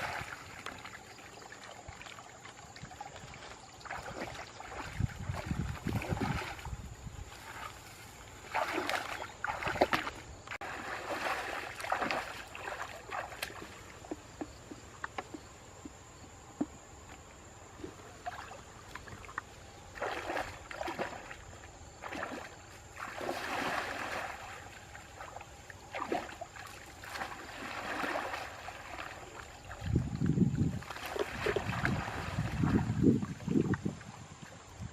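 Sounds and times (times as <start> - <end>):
water splashing and sloshing: 0.0 - 34.9.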